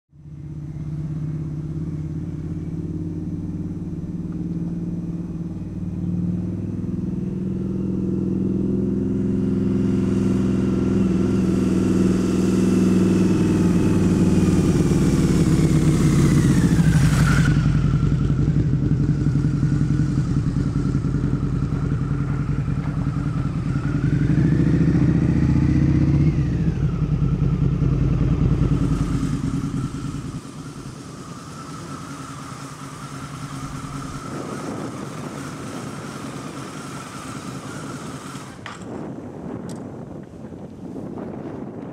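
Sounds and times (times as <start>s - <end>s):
motorcycle engine revving: 0.2s - 41.9s
motorcycle passing by: 0.2s - 41.9s.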